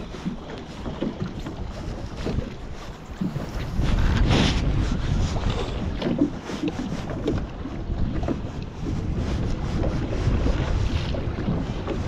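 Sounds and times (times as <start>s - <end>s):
waves slapping boat hull: 0.0s - 12.0s
wind buffeting microphone: 0.0s - 12.0s.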